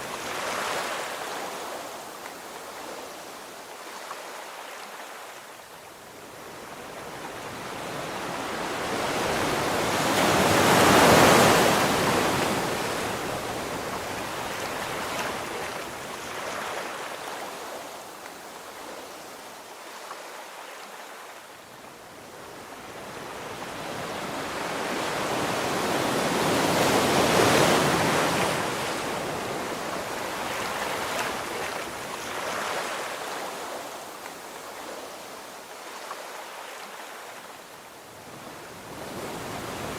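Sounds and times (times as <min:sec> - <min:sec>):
surf washing on shore: 0:00.0 - 0:39.9.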